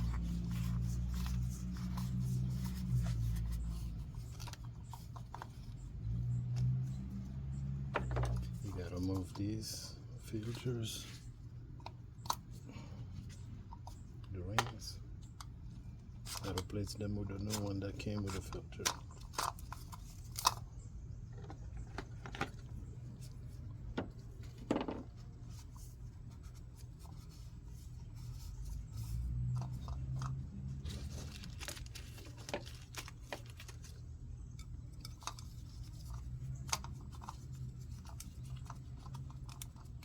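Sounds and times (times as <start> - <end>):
small clicks and scrapes of handling parts: 0.0 - 40.0
steady low hum: 0.0 - 40.0.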